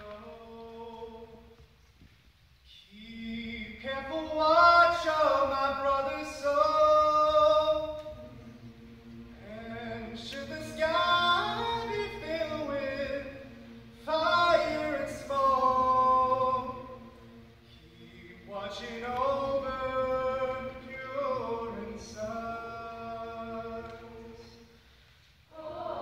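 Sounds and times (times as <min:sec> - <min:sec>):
choir singing held chords: 0:03.0 - 0:26.0.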